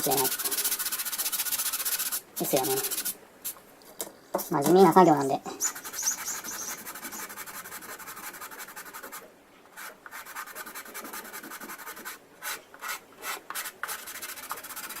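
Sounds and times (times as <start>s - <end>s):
hand sanding plastic: 0.0s - 3.6s, 4.6s - 15.0s.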